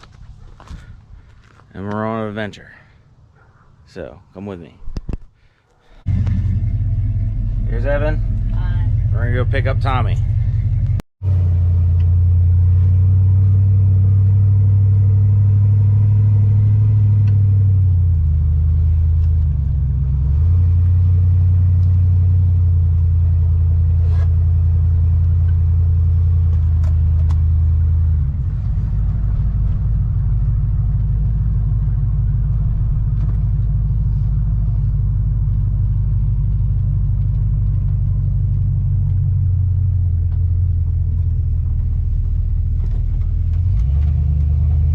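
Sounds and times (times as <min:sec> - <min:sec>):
vehicle engine and road noise: 0:00.0 - 0:44.9.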